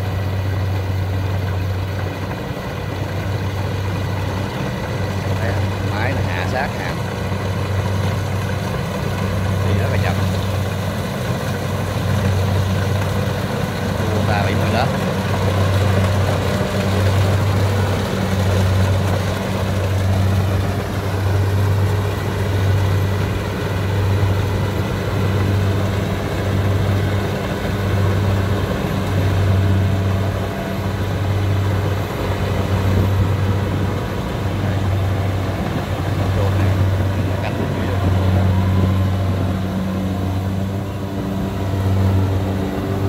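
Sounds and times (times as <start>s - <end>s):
combine harvester engine drone: 0.0s - 43.0s.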